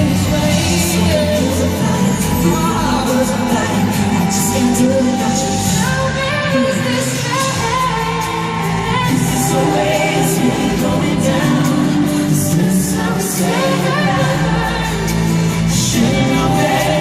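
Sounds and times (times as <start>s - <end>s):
amplified band playing pop music: 0.0s - 17.0s.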